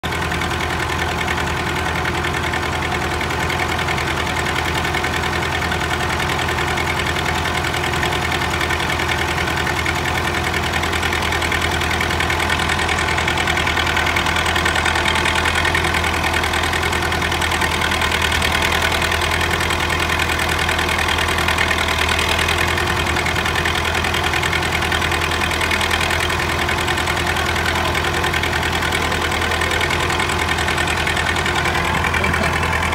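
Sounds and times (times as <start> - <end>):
tractor diesel engines running: 0.0 - 32.9.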